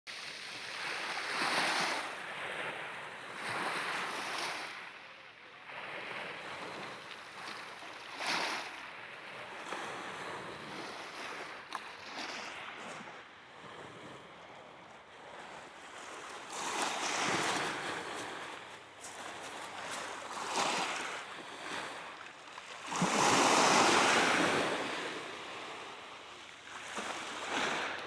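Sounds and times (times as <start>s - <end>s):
sea waves breaking on shore: 0.1s - 28.0s.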